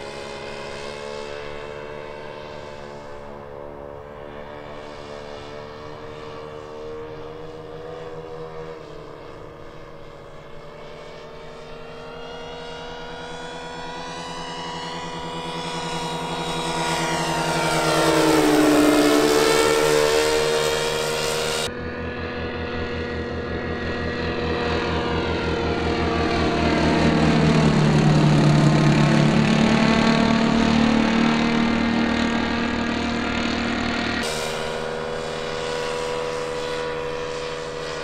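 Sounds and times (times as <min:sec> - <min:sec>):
model airplane engines in flight: 0:00.0 - 0:38.0.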